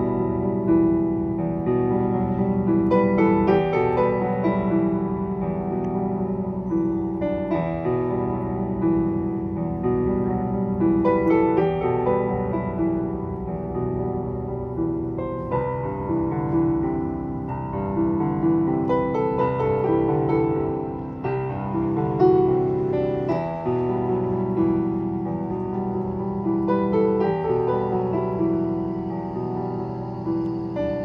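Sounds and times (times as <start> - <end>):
digital piano slow chords: 0.0 - 31.0.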